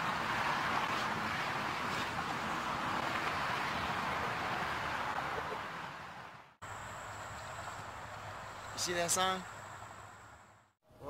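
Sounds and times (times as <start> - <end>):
highway traffic rushing: 0.0 - 10.8.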